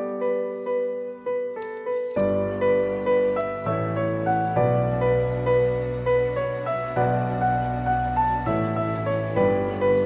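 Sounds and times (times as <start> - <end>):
slow gentle instrumental music: 0.0 - 10.0.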